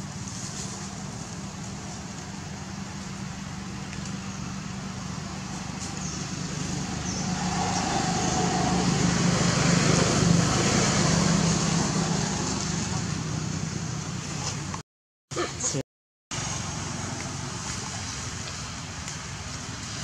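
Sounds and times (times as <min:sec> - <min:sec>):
vehicle engine humming: 0:00.0 - 0:14.8, 0:16.3 - 0:20.0.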